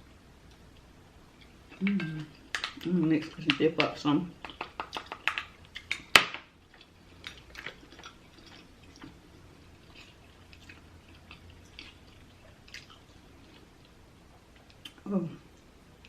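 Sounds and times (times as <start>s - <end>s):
chewing with wet smacks: 0.5s - 15.7s.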